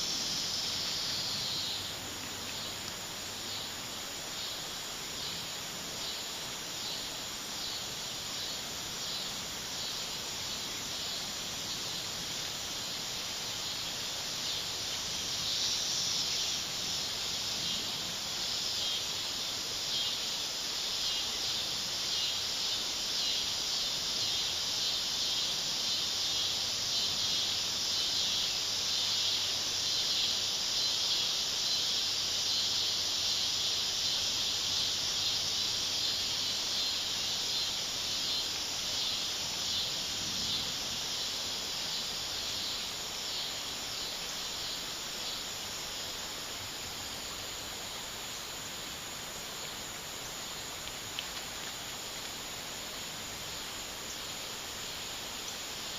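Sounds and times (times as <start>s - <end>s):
insects chorus shrilling: 0.0s - 55.9s.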